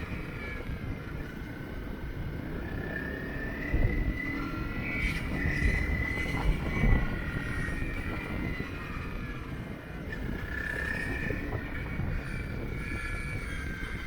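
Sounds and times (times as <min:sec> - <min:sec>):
road rumble: 0:00.0 - 0:14.0
wind: 0:00.0 - 0:14.0.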